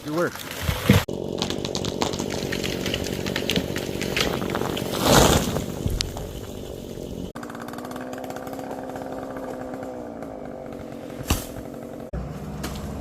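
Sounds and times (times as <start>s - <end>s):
chainsaw running: 1.0s - 13.0s.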